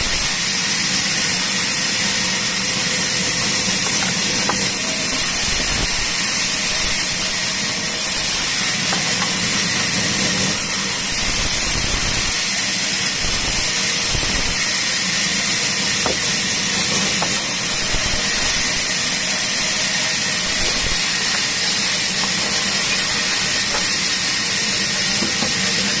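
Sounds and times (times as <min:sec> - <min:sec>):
power saw cutting wood: 0:00.0 - 0:26.0.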